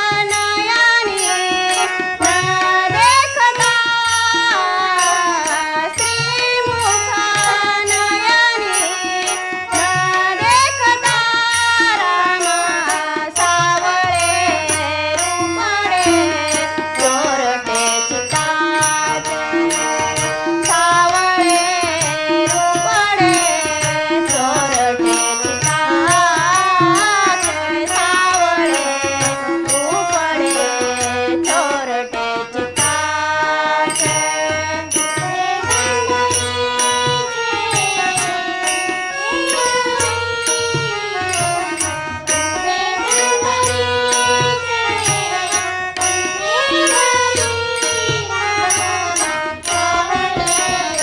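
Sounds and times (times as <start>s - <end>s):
ornamented devotional melody: 0.0s - 51.0s.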